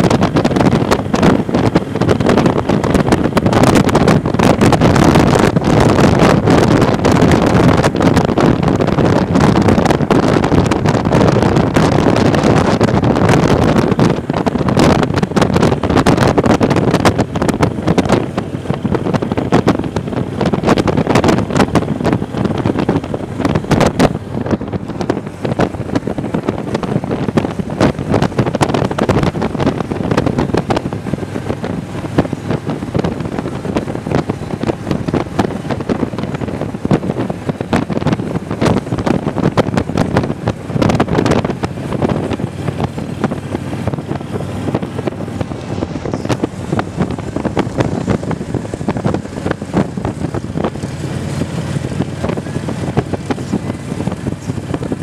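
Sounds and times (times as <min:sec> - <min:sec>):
motorcycle engine: 0:00.0 - 0:55.0
road noise: 0:00.0 - 0:55.0
wind buffeting microphone: 0:00.0 - 0:55.0.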